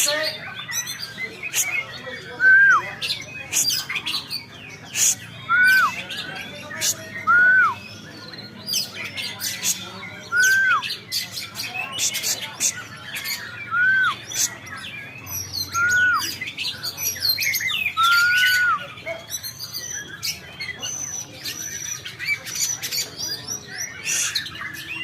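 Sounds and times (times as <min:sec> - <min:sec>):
songbird singing chirps and whistles: 0:00.7 - 0:25.0.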